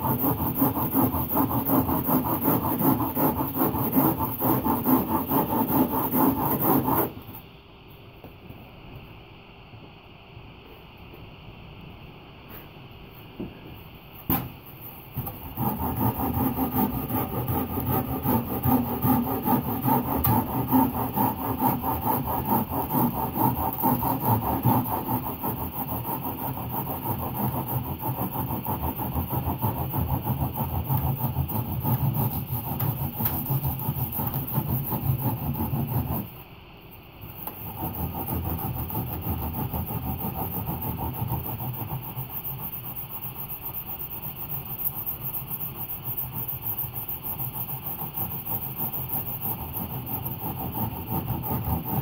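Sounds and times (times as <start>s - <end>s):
sanding block scraping foam: 0.0s - 7.3s, 14.3s - 36.4s, 37.2s - 52.0s.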